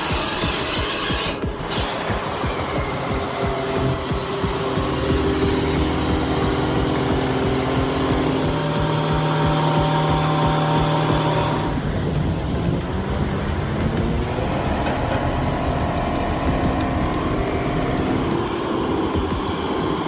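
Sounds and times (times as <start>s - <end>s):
heavy vehicle engine running: 0.0s - 20.0s.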